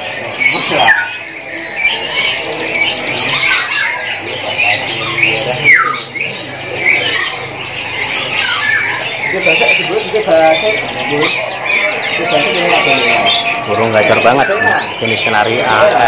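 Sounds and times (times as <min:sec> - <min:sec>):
caged birds calling: 0:00.0 - 0:16.0
canary singing: 0:00.0 - 0:16.0.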